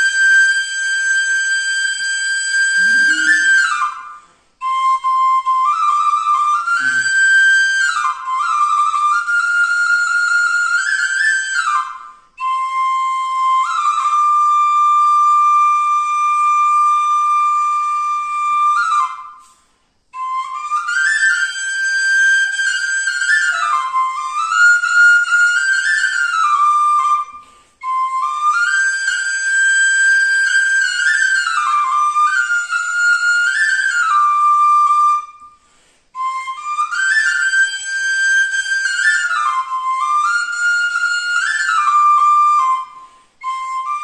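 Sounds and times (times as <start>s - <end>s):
bamboo flute folk melody: 0.0s - 44.0s.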